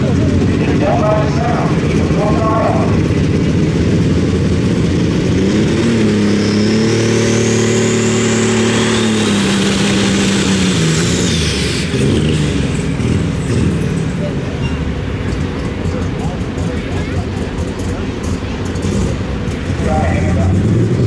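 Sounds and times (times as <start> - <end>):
high whine: 0.0 - 21.0
tractor engine running hard: 0.0 - 21.0.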